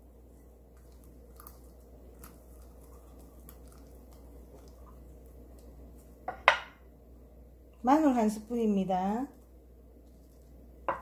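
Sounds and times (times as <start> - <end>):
squishing food in a bowl: 0.0 - 11.0.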